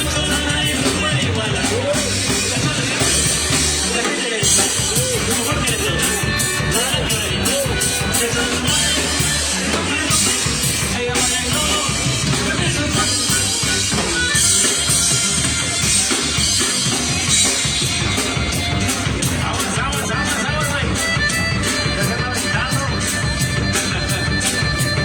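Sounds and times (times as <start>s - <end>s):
band playing instrumental: 0.0s - 25.0s
drum kit beat: 0.0s - 25.0s.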